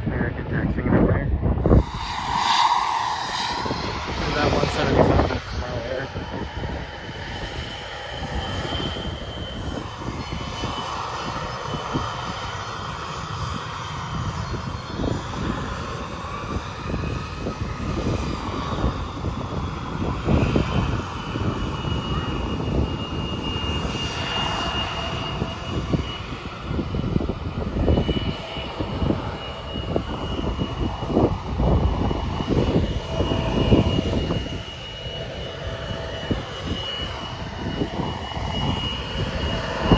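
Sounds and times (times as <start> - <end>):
jet engines whining: 0.0 - 39.9
low rumble: 0.0 - 39.9
wind buffeting microphone: 0.0 - 39.9.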